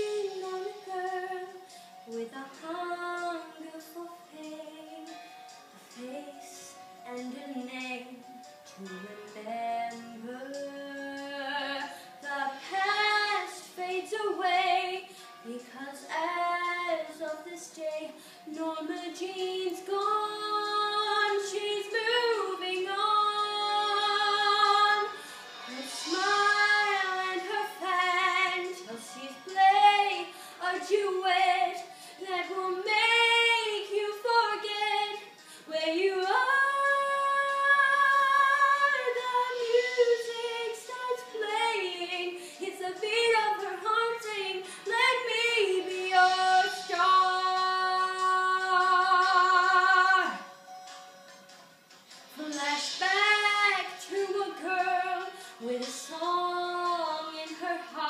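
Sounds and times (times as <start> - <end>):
girl singing: 0.0 - 5.2, 6.0 - 50.5, 52.4 - 58.0.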